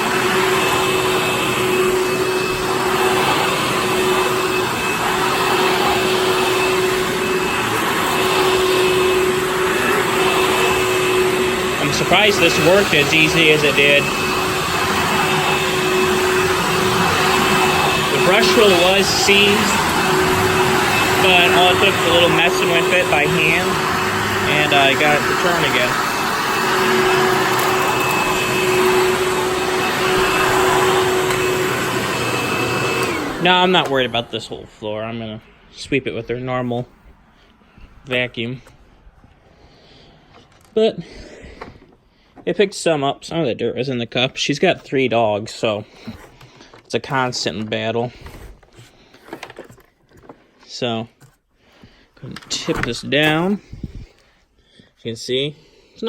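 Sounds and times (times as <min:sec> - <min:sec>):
upright vacuum cleaner running: 0:00.0 - 0:42.0, 0:44.7 - 0:50.6, 0:51.2 - 0:54.2.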